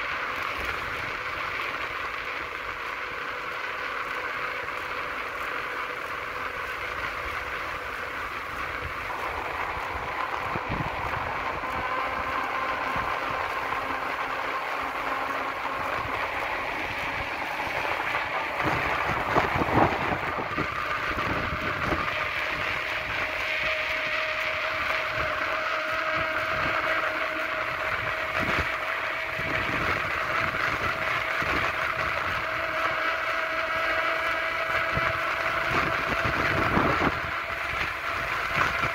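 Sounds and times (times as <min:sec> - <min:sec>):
faint steady whine: 0:00.0 - 0:38.9
wheels rolling on asphalt: 0:00.0 - 0:38.9.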